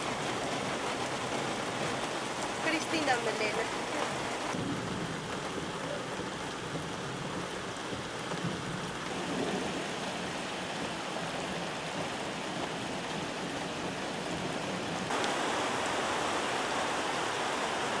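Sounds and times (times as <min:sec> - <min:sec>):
heavy rain: 0:00.0 - 0:18.0
rushing floodwater: 0:00.0 - 0:18.0.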